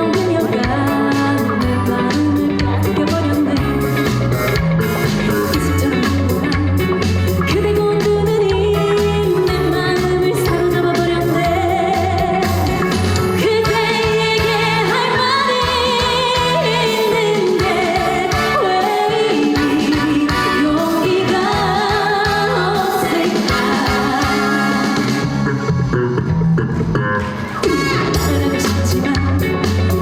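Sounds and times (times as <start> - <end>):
woman singing: 0.0 - 4.2, 5.5 - 25.2, 27.6 - 30.0
backing music with bass line: 0.0 - 30.0.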